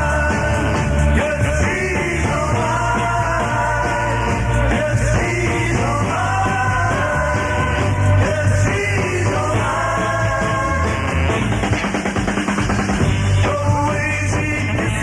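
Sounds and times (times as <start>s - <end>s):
pop-rock song with vocals: 0.0s - 15.0s.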